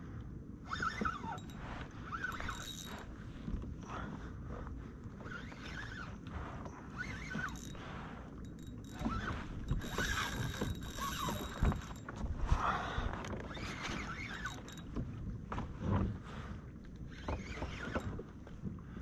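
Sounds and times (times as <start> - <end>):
water sloshing against hull: 0.5 - 19.0.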